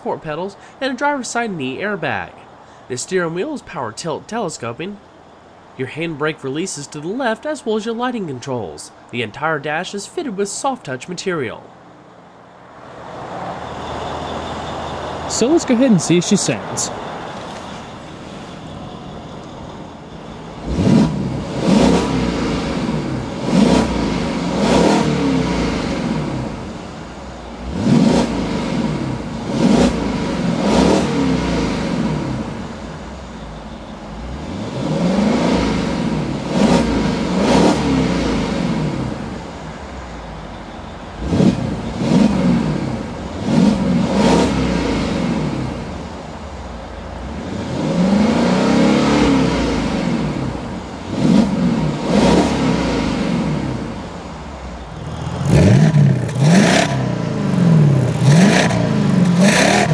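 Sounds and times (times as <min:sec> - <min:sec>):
car engine idling and revving: 0:05.0 - 0:07.1, 0:11.6 - 0:59.9.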